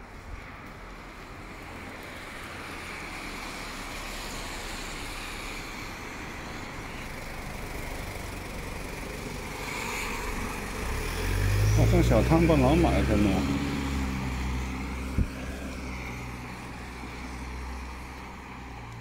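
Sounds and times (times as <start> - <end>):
tyres hissing on wet road: 0.1 - 19.0.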